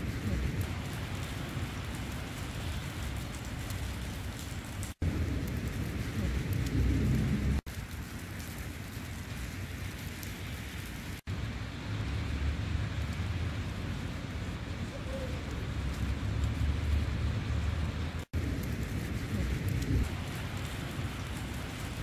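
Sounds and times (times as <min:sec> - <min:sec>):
snowfall hiss: 0:00.0 - 0:22.0
wind rumble on microphone: 0:00.0 - 0:22.0.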